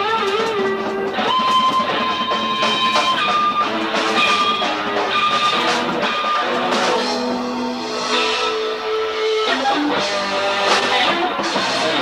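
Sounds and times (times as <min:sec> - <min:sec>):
electric guitar sustained notes: 0:00.0 - 0:12.0
live rock band playing: 0:00.0 - 0:12.0.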